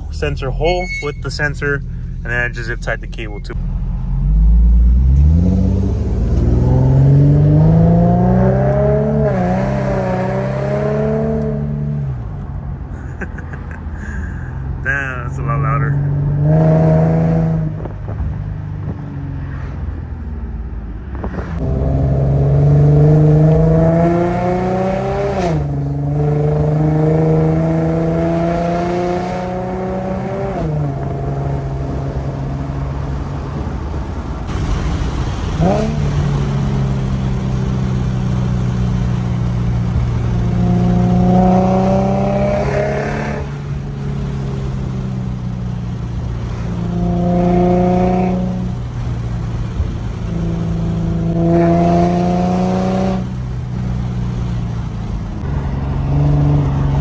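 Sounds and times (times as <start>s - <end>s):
car exhaust accelerating through gears: 0.0s - 12.2s, 21.0s - 57.0s.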